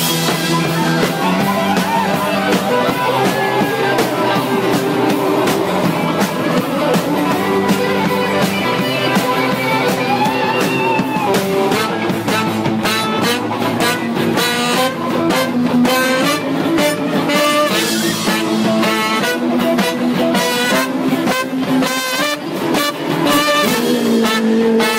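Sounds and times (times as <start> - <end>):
electric guitar solo: 0.0 - 24.9
live band playing: 0.0 - 24.9
trumpet and saxophone: 0.0 - 24.9.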